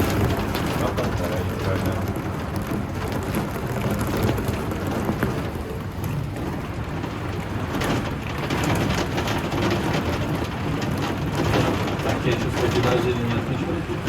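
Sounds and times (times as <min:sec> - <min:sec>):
rain pattering on roof and windows: 0:00.0 - 0:14.0.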